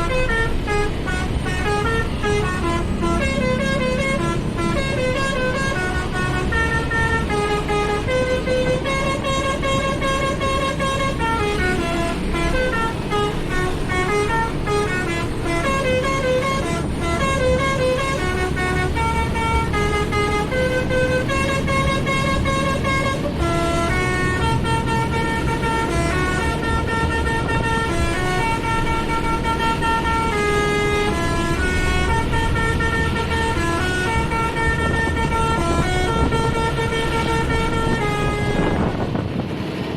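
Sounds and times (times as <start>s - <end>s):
musical bus horn melody: 0.0s - 39.6s.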